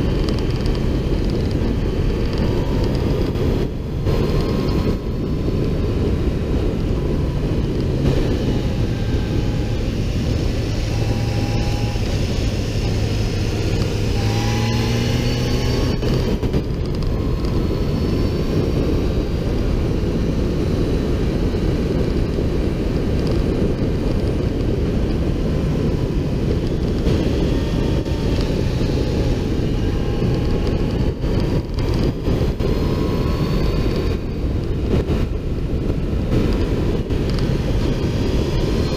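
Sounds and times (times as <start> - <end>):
motorcycle engine: 0.0 - 38.9
wind rush over microphone: 0.0 - 38.9.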